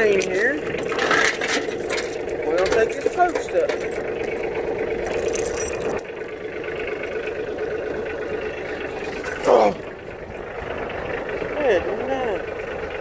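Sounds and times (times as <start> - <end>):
tractor diesel engine: 0.0 - 13.0.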